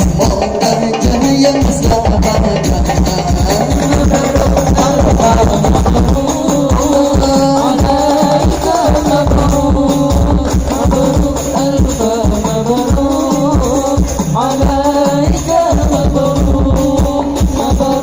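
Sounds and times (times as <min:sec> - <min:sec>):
frame drums and jingles: 0:00.0 - 0:18.0.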